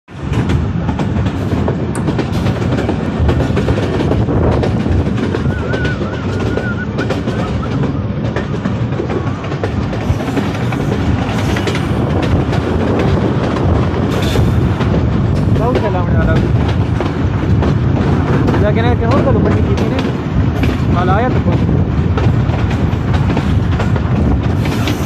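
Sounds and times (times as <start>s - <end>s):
train wheels rumbling on rails: 0.1s - 25.0s
small rail clicks: 0.2s - 25.0s.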